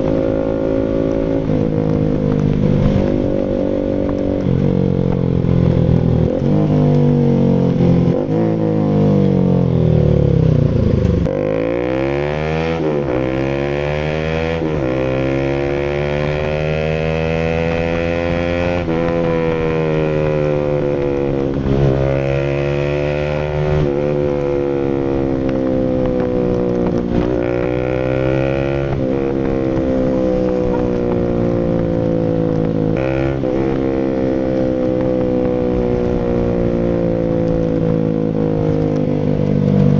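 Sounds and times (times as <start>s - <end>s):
motorcycle engine running: 0.0s - 11.8s, 14.6s - 39.9s.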